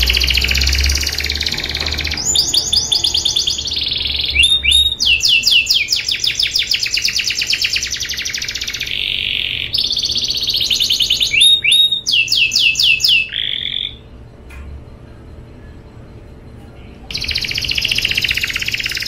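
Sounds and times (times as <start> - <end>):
canary singing trills: 0.0 - 14.2, 16.7 - 19.0.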